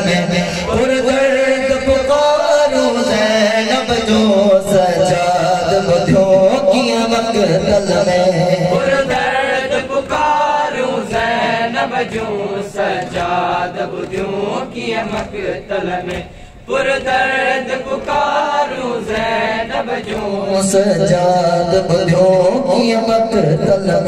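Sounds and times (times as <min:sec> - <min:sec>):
men chanting a lament: 0:00.0 - 0:24.0
reciter on a microphone: 0:00.0 - 0:24.0.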